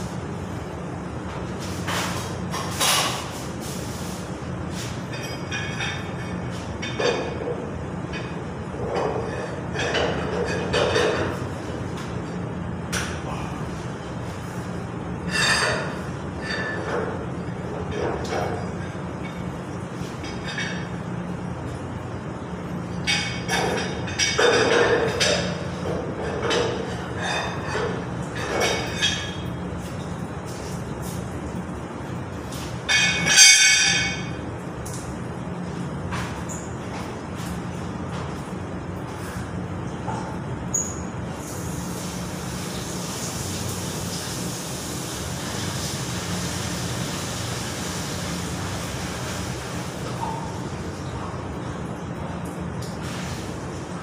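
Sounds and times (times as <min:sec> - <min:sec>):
low machinery hum: 0:00.0 - 0:54.0.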